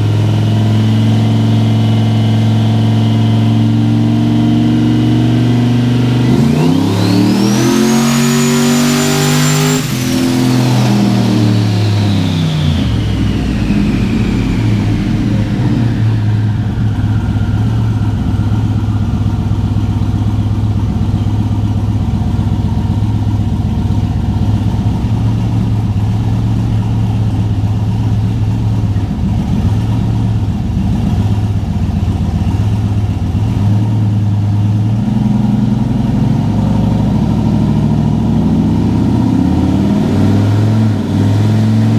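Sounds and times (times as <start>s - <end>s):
turbo whine: 0.0s - 34.0s
car engine revving: 0.0s - 41.9s.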